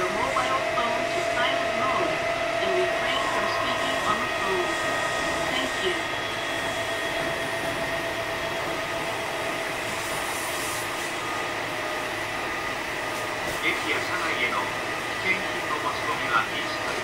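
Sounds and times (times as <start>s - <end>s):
steady whining tones: 0.0s - 17.0s
train wheels rumbling: 0.0s - 17.0s.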